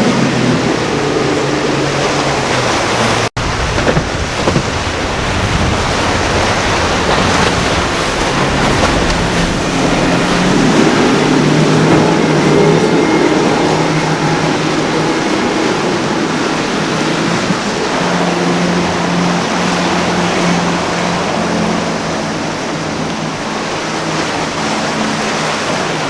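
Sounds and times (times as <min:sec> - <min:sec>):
motorboat engines running: 0:00.0 - 0:26.0
waves breaking: 0:00.0 - 0:26.0
wind on microphone: 0:00.0 - 0:26.0.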